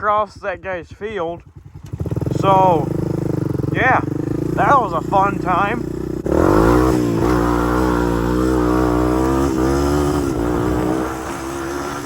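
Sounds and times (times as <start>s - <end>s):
atv engine revving: 1.4s - 12.0s.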